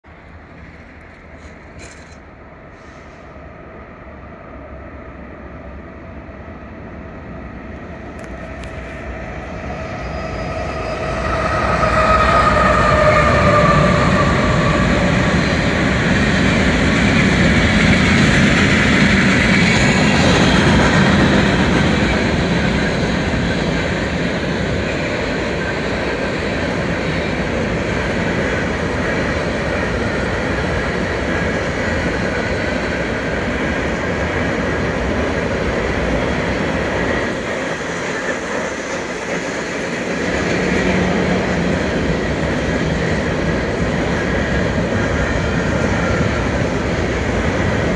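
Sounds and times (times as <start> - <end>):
diesel locomotives passing: 0.0 - 47.9
train wheels on rails: 0.0 - 47.9.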